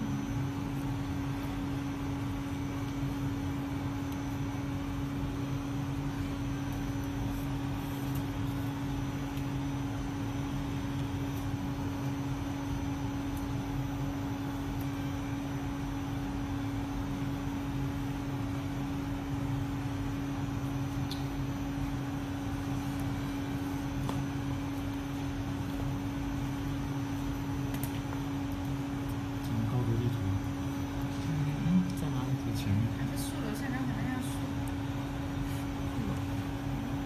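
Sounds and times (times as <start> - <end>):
machine hum: 0.0 - 37.0.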